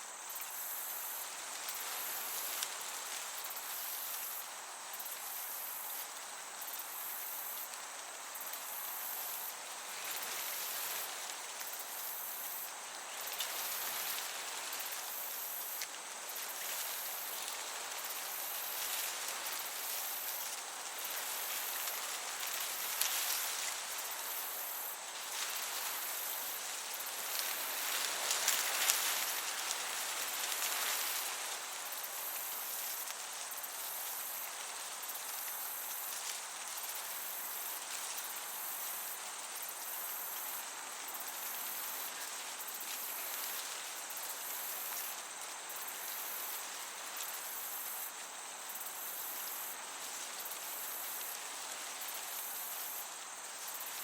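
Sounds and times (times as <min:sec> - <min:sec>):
crickets chirping: 0:00.0 - 0:54.0
gentle breeze hiss: 0:00.0 - 0:54.0.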